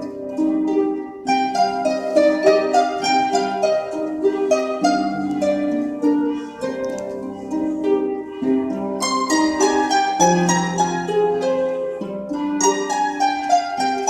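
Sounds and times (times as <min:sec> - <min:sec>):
harps plucking: 0:00.0 - 0:14.0.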